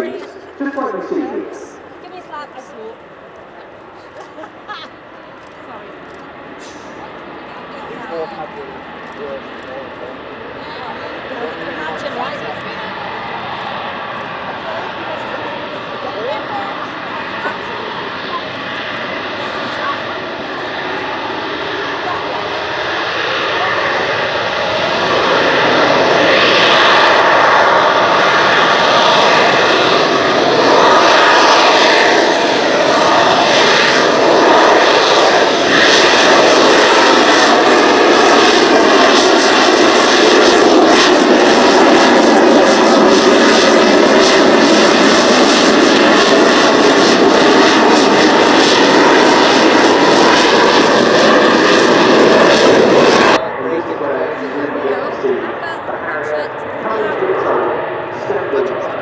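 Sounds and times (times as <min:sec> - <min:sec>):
jet engine running: 0:00.0 - 0:59.0.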